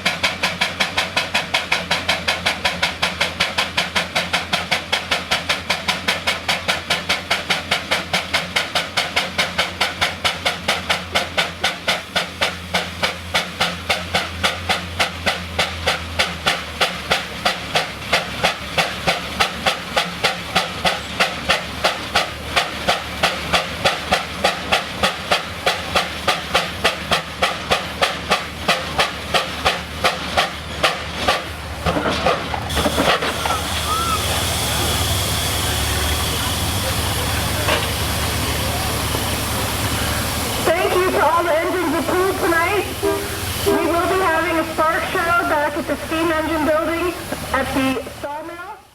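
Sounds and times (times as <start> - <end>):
steam engine exhaust chuffing: 0.0 - 48.5
steam hissing: 0.0 - 48.9.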